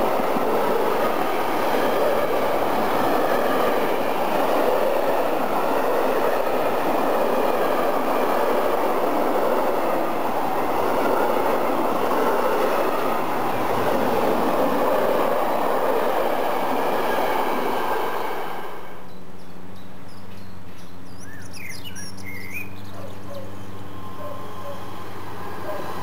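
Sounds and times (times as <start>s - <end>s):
train wheels rolling on rails: 0.0s - 20.8s, 23.6s - 26.0s.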